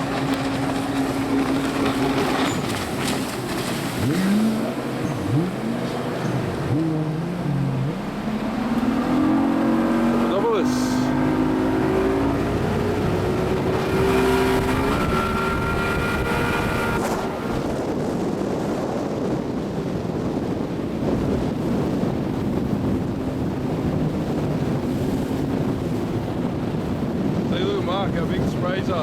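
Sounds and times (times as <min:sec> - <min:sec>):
rush of wind and water: 0:00.0 - 0:29.0
watercraft engine running: 0:00.0 - 0:29.0.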